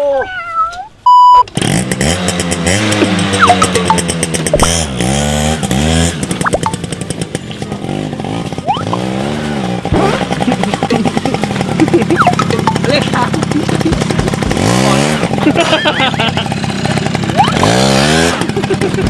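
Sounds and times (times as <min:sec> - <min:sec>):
motorcycle engine revving: 0:01.5 - 0:19.0
rear wheel spinning on dirt: 0:01.5 - 0:19.0.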